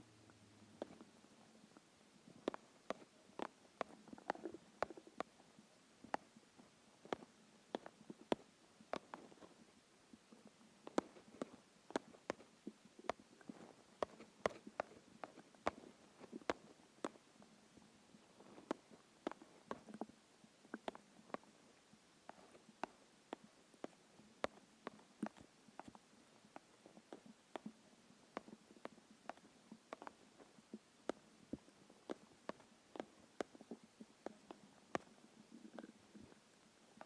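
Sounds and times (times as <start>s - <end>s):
stomach gurgling pops and clicks: 0.8s - 1.2s, 2.3s - 17.4s, 18.1s - 37.0s.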